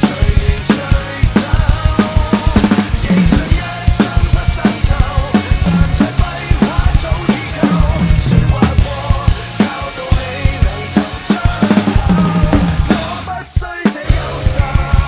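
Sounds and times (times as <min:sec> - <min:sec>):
backing music: 0:00.0 - 0:15.0
drum kit playing a groove: 0:00.0 - 0:15.0.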